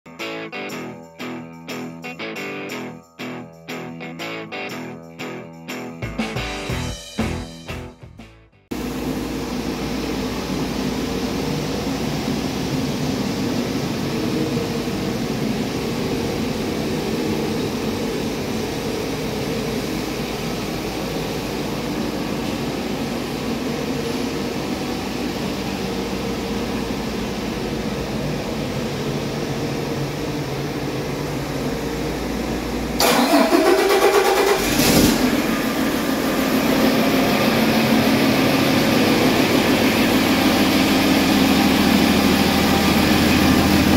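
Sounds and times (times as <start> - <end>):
diesel engine starting: 8.7 - 43.9.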